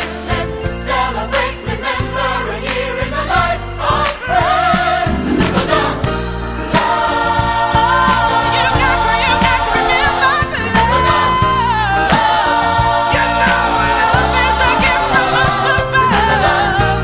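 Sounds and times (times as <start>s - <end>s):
choir singing: 0.0s - 17.0s
band with steady drum beat: 3.0s - 17.0s.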